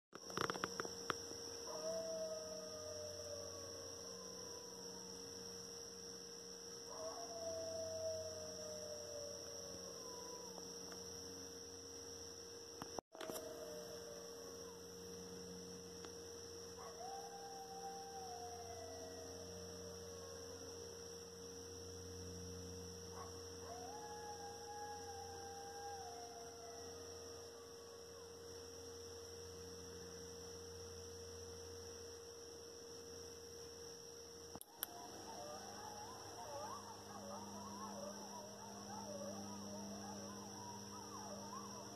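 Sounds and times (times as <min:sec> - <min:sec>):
high steady whine: 0:00.1 - 0:41.9
steady electrical hum: 0:00.2 - 0:41.9
coyotes howling: 0:00.3 - 0:00.9, 0:01.5 - 0:11.4, 0:13.2 - 0:29.7, 0:34.6 - 0:41.9.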